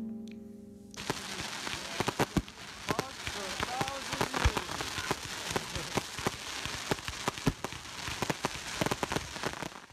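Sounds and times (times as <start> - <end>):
fireworks cracking: 1.0 - 9.9
fireworks fizzing crackle: 1.0 - 9.9.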